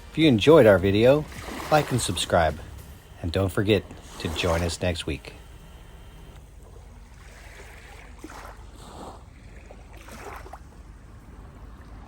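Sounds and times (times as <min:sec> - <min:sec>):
low steady rumble: 0:00.0 - 0:12.0
water sloshing and splashing: 0:00.0 - 0:12.0.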